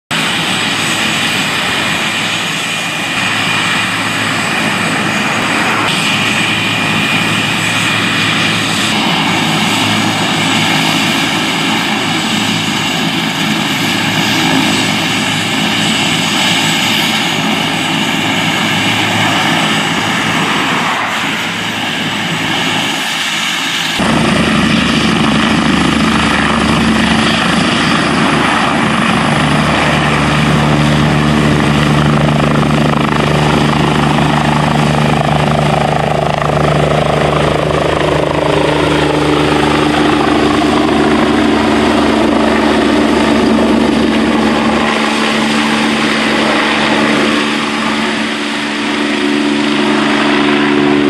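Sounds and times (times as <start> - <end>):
helicopter rotor and turbine noise: 0.1 - 51.0.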